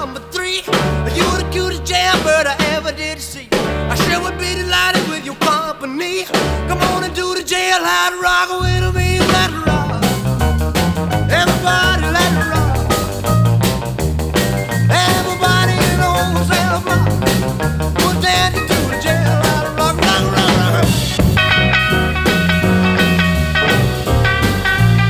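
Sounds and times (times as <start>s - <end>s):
music with steady beat and bass: 0.0s - 3.0s, 3.6s - 5.2s, 8.6s - 25.0s.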